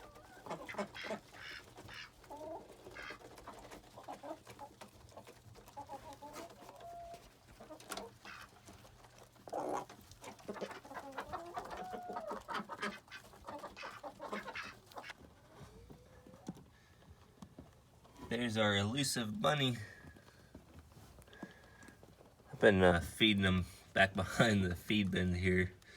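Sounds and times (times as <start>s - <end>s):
hens clucking: 0.0s - 25.9s.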